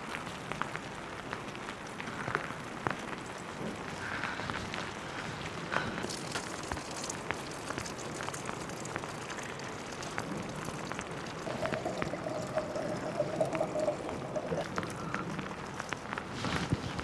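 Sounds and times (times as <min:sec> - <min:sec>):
steady rain falling: 0:00.0 - 0:17.0
single raindrops ticking: 0:00.1 - 0:16.3.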